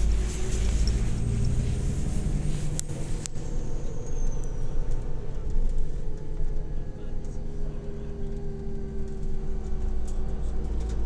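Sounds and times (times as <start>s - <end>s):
coach engine rumble: 0.0s - 11.0s.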